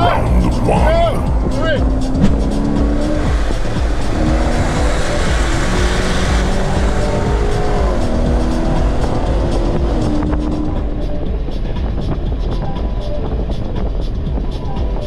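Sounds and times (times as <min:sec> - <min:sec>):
car engine at full throttle: 0:00.0 - 0:15.0
road and wind rumble: 0:00.0 - 0:15.0.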